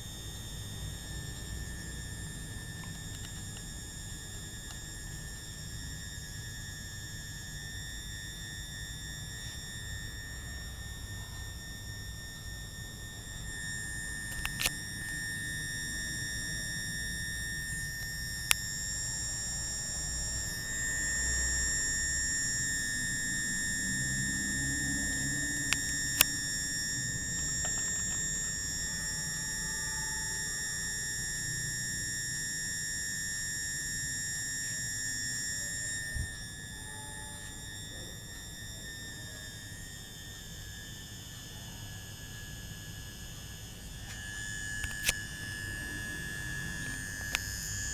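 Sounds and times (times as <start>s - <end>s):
high-pitched electrical whine: 0.0s - 47.9s
low electrical hum: 0.0s - 47.9s.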